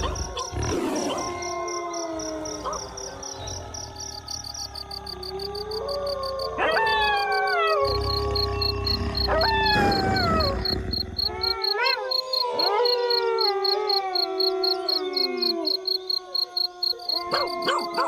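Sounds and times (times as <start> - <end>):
pulsing insect chirp: 0.0 - 18.0
wolves howling: 0.0 - 18.0.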